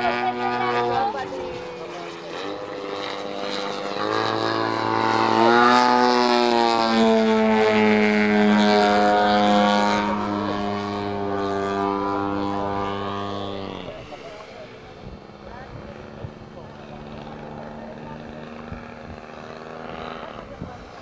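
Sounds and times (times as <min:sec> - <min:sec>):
model plane engine buzzing: 0:00.0 - 0:21.0.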